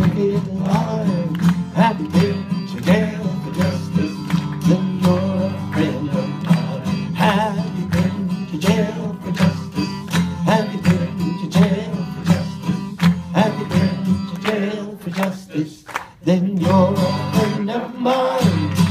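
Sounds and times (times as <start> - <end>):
acoustic guitar strumming: 0.0 - 15.4, 16.3 - 18.9
man singing: 0.0 - 18.9.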